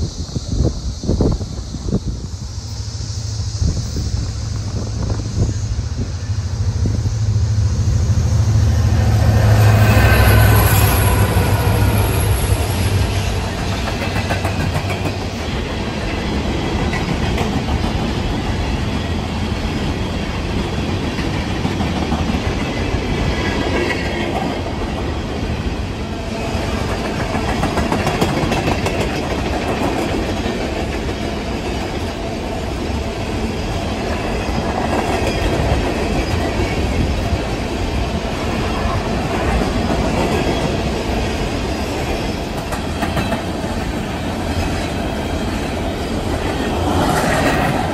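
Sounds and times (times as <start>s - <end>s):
freight train wheels clattering: 4.2s - 47.9s.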